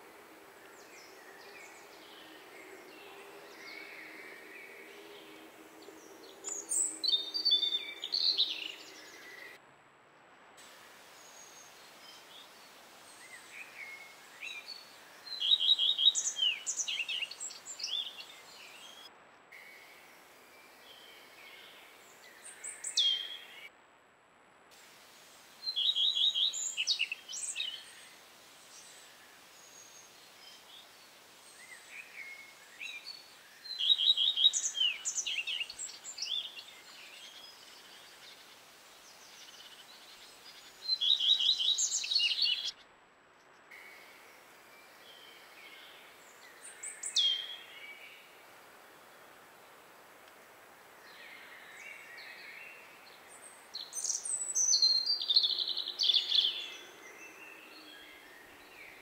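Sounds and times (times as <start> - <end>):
songbird singing: 0.0 - 9.6, 10.6 - 23.7, 24.9 - 59.0
faint outdoor hiss: 0.0 - 59.0.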